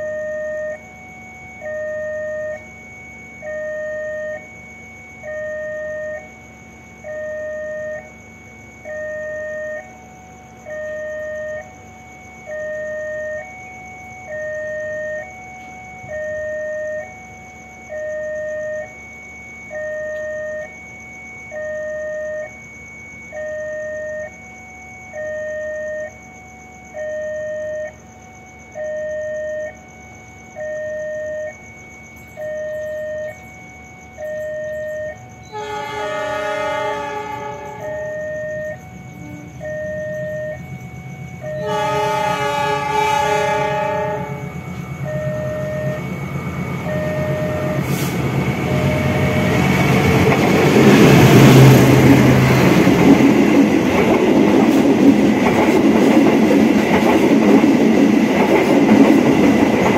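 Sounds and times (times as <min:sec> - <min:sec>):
two-tone railway warning alarm: 0:00.0 - 0:59.9.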